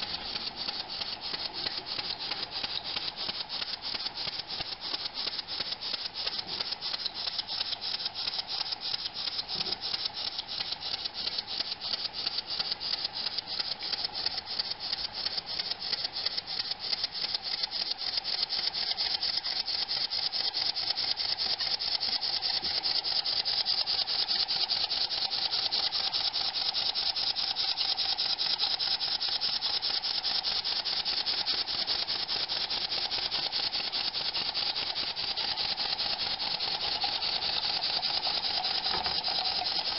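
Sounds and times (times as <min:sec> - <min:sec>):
steam engine exhaust puffs: 0:00.0 - 0:39.9.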